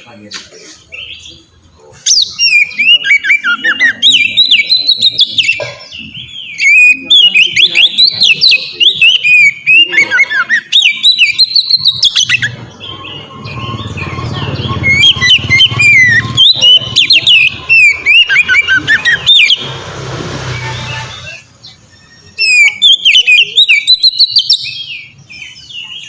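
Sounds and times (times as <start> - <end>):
songbird singing loudly: 0.8 - 26.0.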